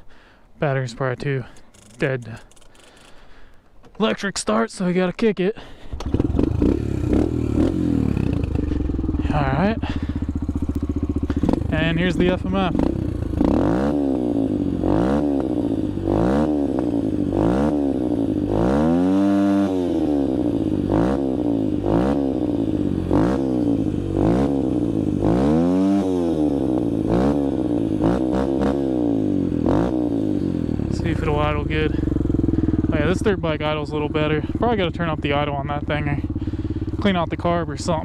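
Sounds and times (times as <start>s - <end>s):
dirt bike engine revving: 5.9s - 38.0s.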